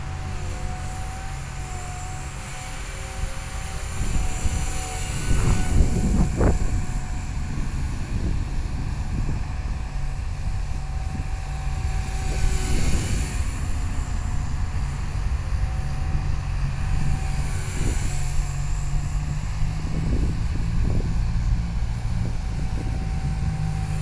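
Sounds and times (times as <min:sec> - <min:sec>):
rc helicopter rotor whine: 0:00.0 - 0:24.0
wind rumble on microphone: 0:00.0 - 0:24.0.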